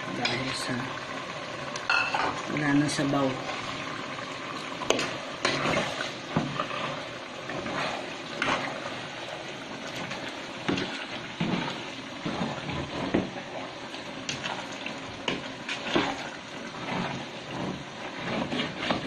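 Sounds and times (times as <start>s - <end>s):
liquid bubbling and sloshing in pot: 0.0s - 19.0s.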